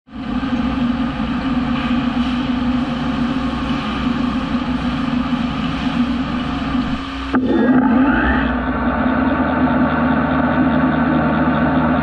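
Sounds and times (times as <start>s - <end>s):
machining noise with low hum: 0.1s - 12.0s.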